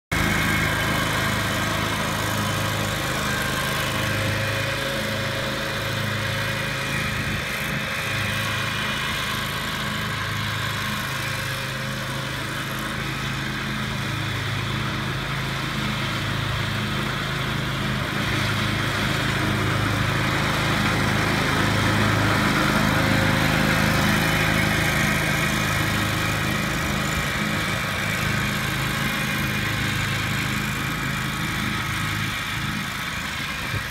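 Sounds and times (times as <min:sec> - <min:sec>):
riding mower engine running: 0:00.1 - 0:33.9.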